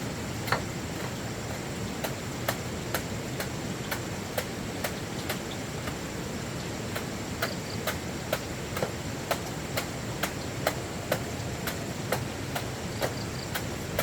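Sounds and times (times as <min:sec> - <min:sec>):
steady hiss: 0:00.0 - 0:14.0
sharp ticks: 0:00.4 - 0:06.0, 0:06.9 - 0:14.0.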